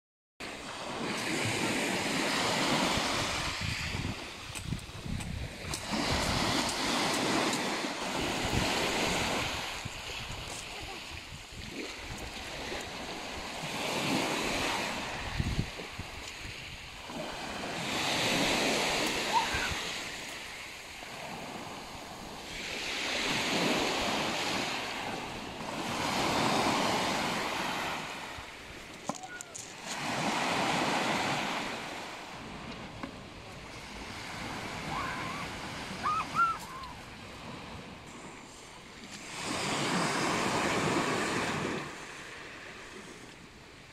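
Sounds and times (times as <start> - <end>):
waves washing on pebble beach: 0.4 - 43.5.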